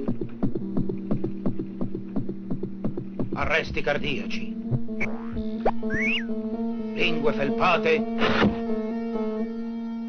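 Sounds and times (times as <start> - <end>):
held low music chord: 0.0 - 10.0.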